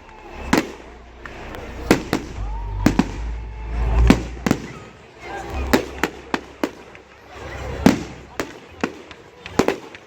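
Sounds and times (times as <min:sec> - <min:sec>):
fireworks bangs: 0:00.0 - 0:10.0
low rumble of fireworks launches: 0:00.0 - 0:10.0.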